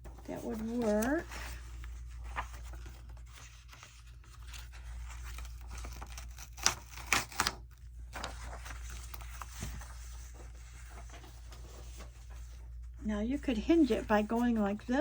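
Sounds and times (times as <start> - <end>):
crisp paper rustles: 0.0 - 15.0
paper shuffling: 0.0 - 15.0.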